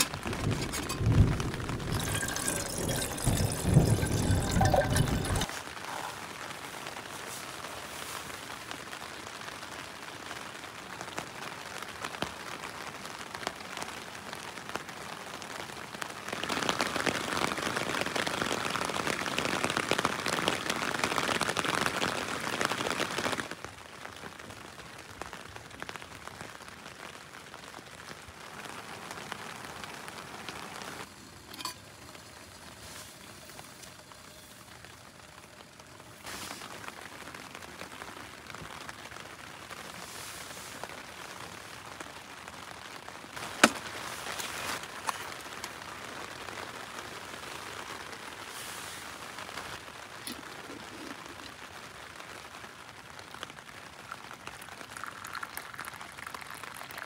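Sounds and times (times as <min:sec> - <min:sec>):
rain on tent fabric: 0:00.0 - 0:57.0.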